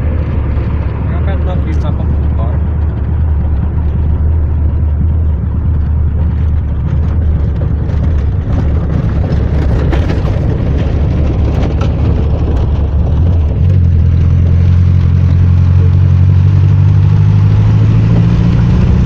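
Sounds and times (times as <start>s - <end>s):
vehicle low drone: 0.0s - 19.0s.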